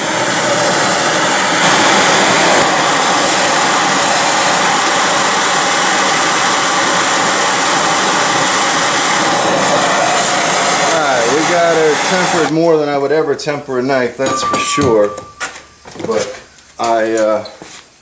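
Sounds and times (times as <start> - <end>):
propane torch hissing: 0.0 - 18.0.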